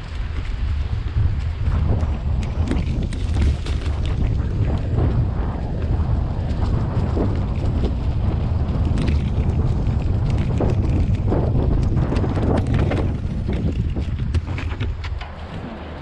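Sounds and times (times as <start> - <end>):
bike clicking and rattling: 0.0 - 16.0
tyres crunching over dirt: 0.0 - 16.0
wind buffeting microphone: 0.0 - 16.0.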